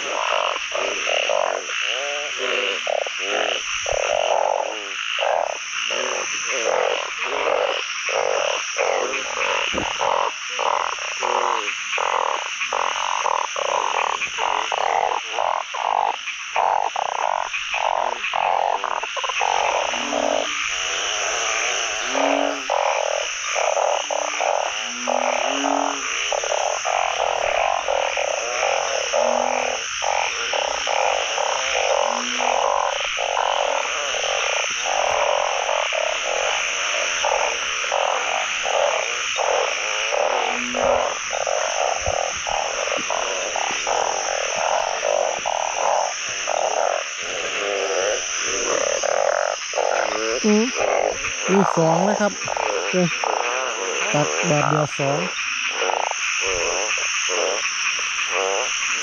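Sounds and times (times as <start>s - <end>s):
chorus of frogs calling: 0.0s - 59.0s
short deeper frog notes: 0.0s - 59.0s.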